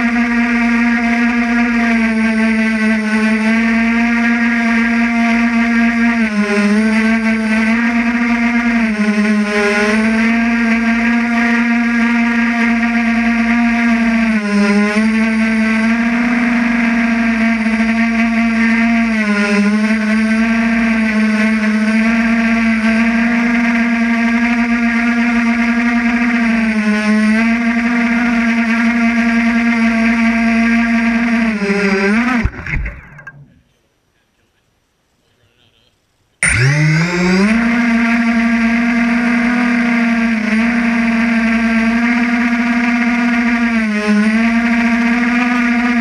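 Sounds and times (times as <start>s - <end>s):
drone propellers whining: 0.0s - 34.4s, 35.5s - 46.0s.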